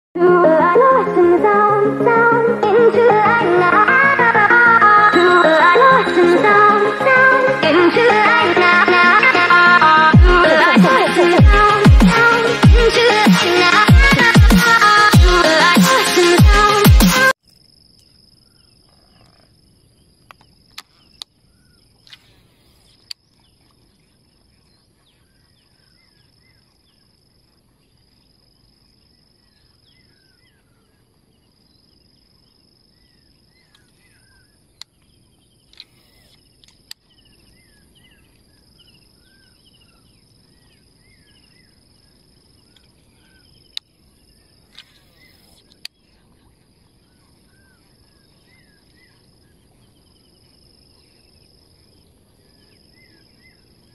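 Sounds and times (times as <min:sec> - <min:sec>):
insects buzzing: 0:00.2 - 0:53.9.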